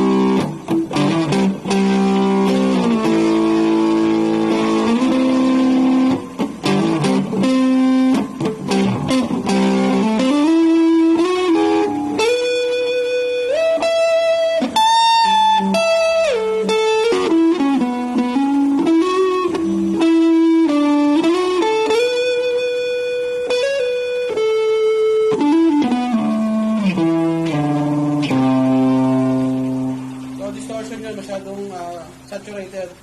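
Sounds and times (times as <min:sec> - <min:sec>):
electric guitar lead with slides: 0:00.0 - 0:32.3
electric guitar strummed chords: 0:00.0 - 0:32.6.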